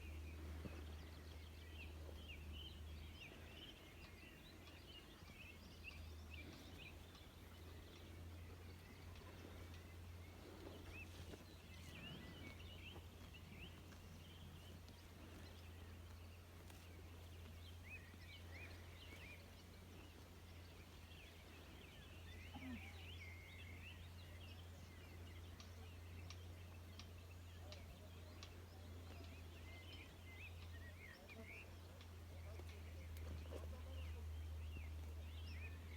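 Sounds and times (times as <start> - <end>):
birds chirping: 0.0 - 35.9
steady low hum: 0.0 - 35.9.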